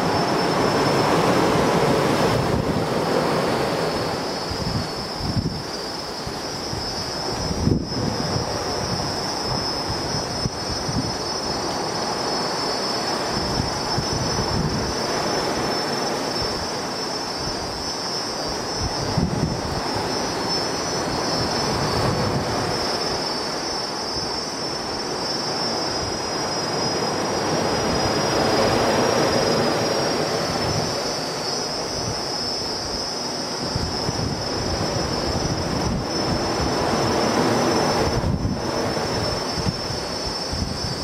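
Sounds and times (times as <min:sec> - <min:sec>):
high-pitched insect drone: 0:00.0 - 0:41.0
sea breeze: 0:00.0 - 0:41.0.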